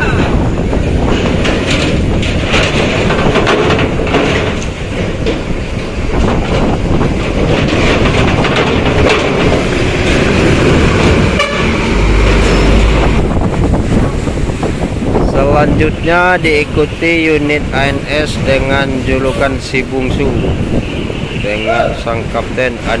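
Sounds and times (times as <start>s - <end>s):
coach engine running: 0.0s - 21.6s
wheels clanking over steel plates: 0.0s - 23.0s
wind buffeting microphone: 0.0s - 23.0s.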